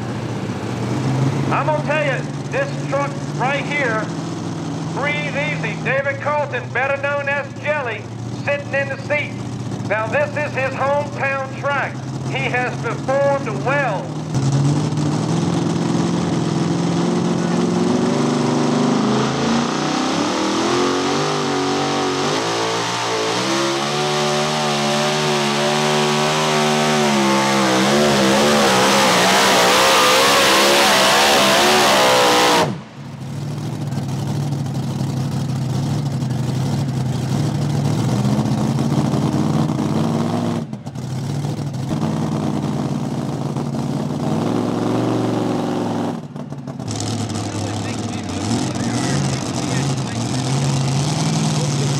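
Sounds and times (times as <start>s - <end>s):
engine running at steady revs: 0.0s - 51.9s
truck engine revving at full throttle: 0.0s - 51.9s.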